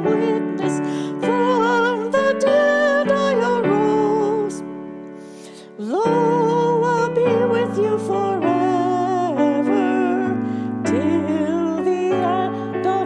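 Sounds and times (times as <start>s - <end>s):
held keyboard chords: 0.0s - 13.0s.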